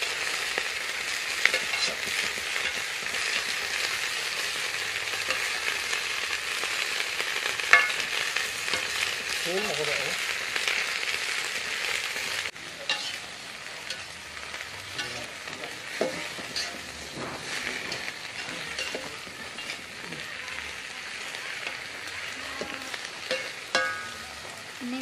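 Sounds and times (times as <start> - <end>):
greens sizzling in a pan: 0.0 - 25.0.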